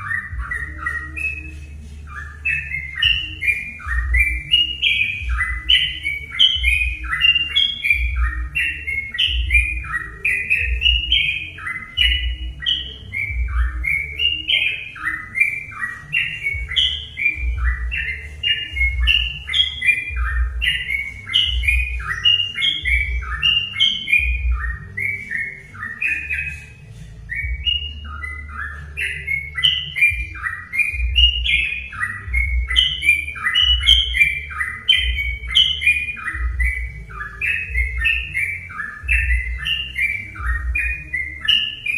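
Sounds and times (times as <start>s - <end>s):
birds singing whistled phrases: 0.0s - 41.9s.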